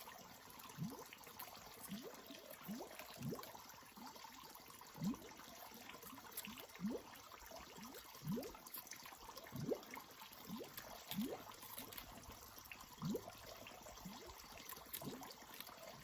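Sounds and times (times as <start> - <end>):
water gurgling and plopping: 0.0 - 16.0.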